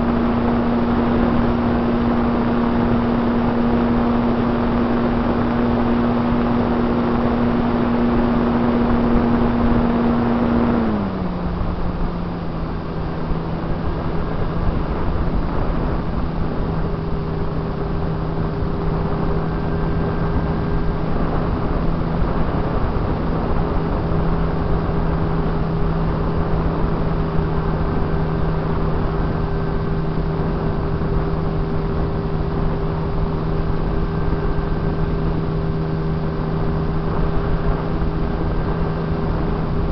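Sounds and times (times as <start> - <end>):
model plane motor humming: 0.0 - 39.9.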